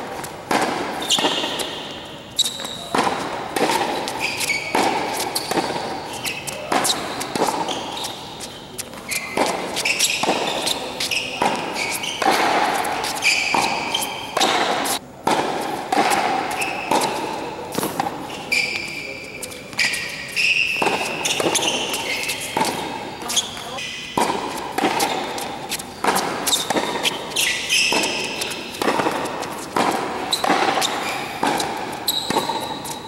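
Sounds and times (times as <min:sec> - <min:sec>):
ball bouncing on hard court: 0:00.0 - 0:33.0
tennis ball hit by racquets: 0:00.0 - 0:33.0
shoe squeaks: 0:00.9 - 0:15.0, 0:15.7 - 0:33.0.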